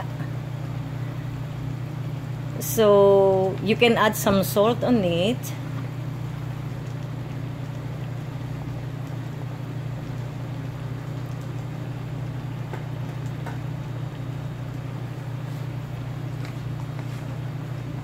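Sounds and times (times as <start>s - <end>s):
kitchen equipment hum: 0.0s - 18.0s
water boiling in pot: 0.0s - 18.0s.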